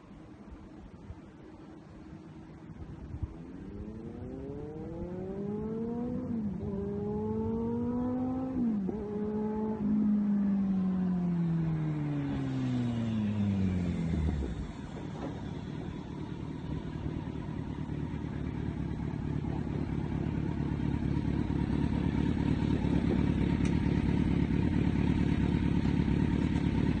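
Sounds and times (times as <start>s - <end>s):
steady rumble: 0.0s - 27.0s
motorcycle engine slowing: 3.0s - 27.0s.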